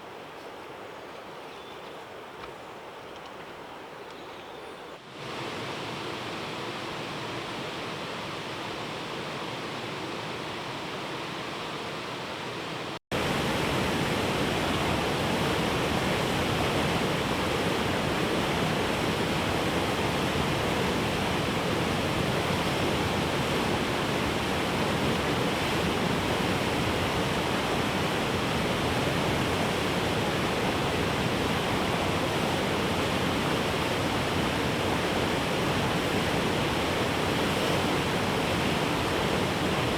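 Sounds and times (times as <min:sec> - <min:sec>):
river water flowing: 0:05.0 - 0:39.9.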